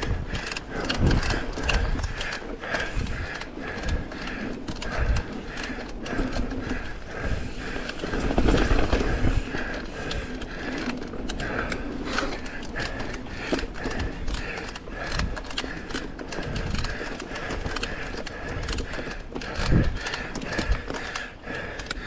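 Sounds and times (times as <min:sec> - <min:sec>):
wind rumble on microphone: 0:00.0 - 0:21.0
bike chain rattles and knocks: 0:00.0 - 0:22.0.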